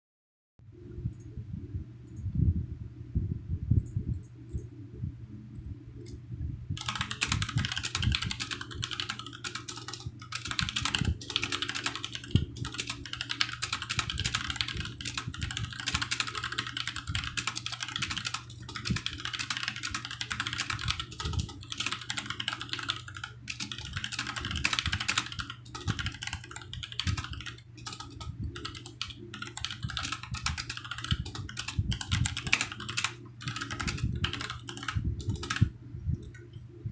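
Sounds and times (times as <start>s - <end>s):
faint low hum: 0.6s - 36.9s
mechanical keyboard typing: 6.8s - 36.4s.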